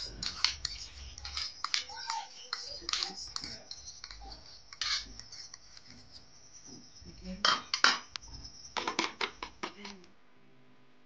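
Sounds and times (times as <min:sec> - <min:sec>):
fork scraping a ceramic plate: 0:00.0 - 0:09.4.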